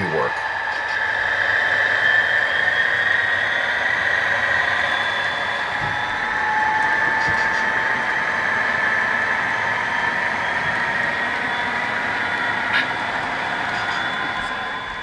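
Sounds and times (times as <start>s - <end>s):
high whine: 0.0s - 15.0s
model train running: 0.0s - 15.0s.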